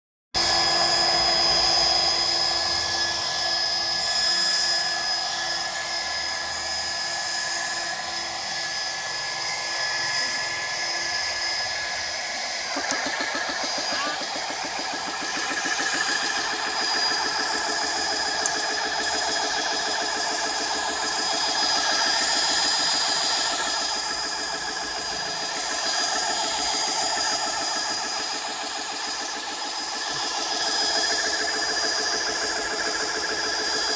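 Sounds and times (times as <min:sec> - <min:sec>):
electric air compressor running: 0:00.4 - 0:33.9.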